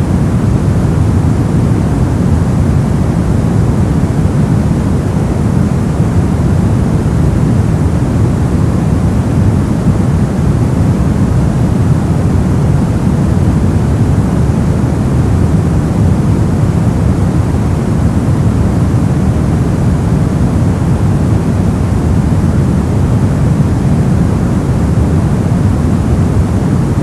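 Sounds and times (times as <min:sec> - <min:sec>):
brown noise: 0:00.0 - 0:27.0.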